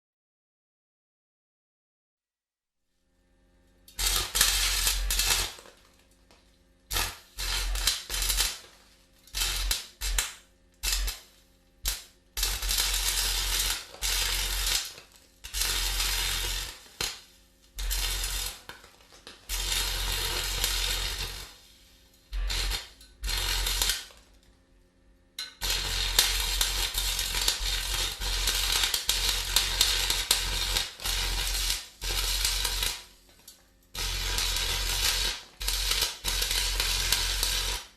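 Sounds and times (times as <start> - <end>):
arc welding sizzling and crackling: 3.7 - 24.5, 25.4 - 37.9.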